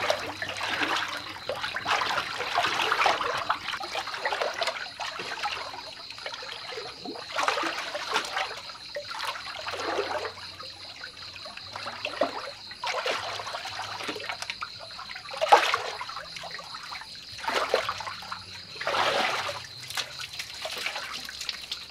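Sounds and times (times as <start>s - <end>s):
water sloshing and trickling: 0.0s - 21.9s.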